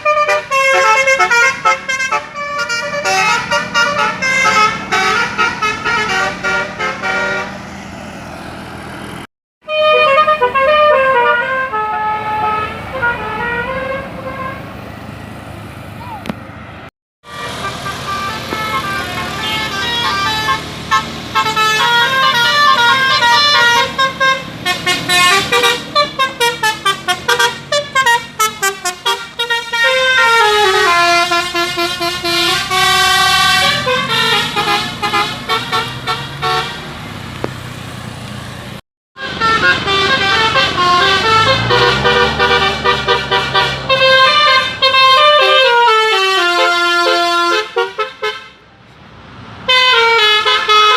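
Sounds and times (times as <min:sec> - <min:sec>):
multi-trumpet vehicle horn melody: 0:00.0 - 0:07.6, 0:09.6 - 0:14.7, 0:17.2 - 0:37.0, 0:39.2 - 0:48.7, 0:49.7 - 0:50.9.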